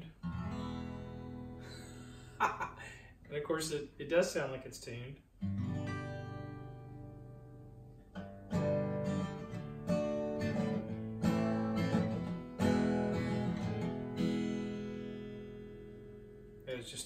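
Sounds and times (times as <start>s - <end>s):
acoustic guitar strummed chords: 0.0s - 2.7s, 5.4s - 16.7s.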